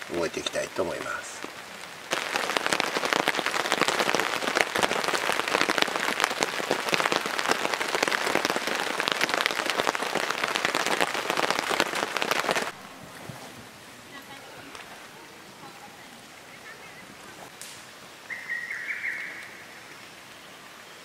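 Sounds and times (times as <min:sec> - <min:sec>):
rain on a nylon tarp: 0:00.0 - 0:21.0.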